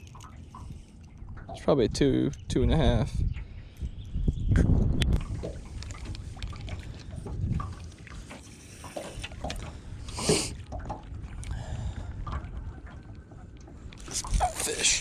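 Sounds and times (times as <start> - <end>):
wind rumbling on microphone: 0.0 - 8.3, 8.9 - 15.0
water lapping against boat: 0.0 - 15.0.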